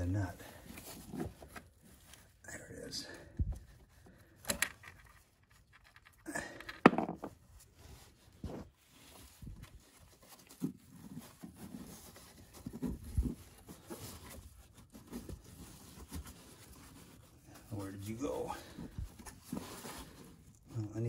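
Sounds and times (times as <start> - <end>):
gloved hand rustling in metal case: 0.0 - 21.0.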